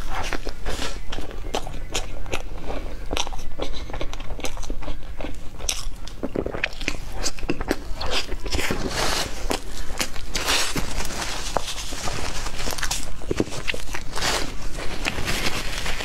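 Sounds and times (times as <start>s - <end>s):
biting and chewing cake: 0.0s - 16.0s.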